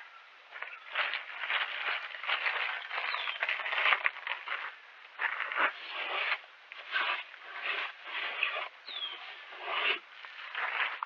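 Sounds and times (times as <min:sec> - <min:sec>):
brush scraping wooden bird feeder: 0:00.6 - 0:11.0.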